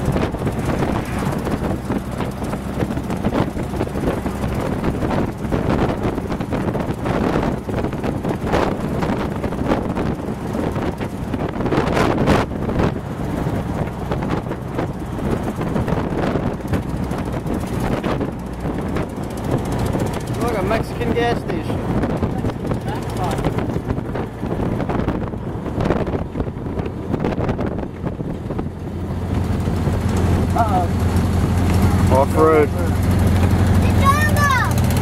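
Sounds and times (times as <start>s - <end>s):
buggy engine running: 0.0s - 35.0s
wind buffeting microphone: 0.0s - 35.0s.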